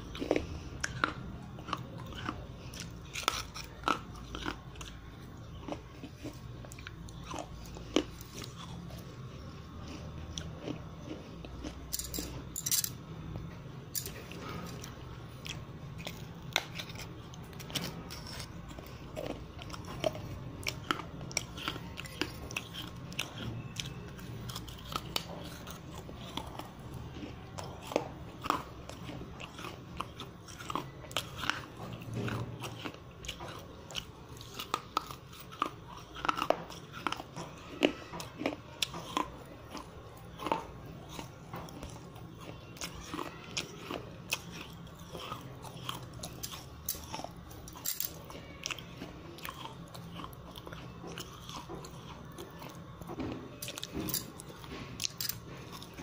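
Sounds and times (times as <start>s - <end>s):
crunchy chewing of clay: 0.0s - 56.0s
low steady hum: 0.0s - 56.0s.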